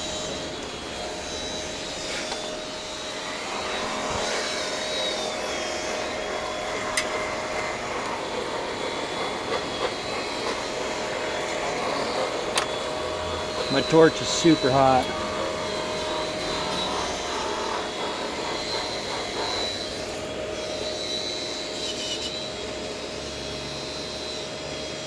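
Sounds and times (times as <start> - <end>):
machine whirring and humming: 0.0 - 25.0.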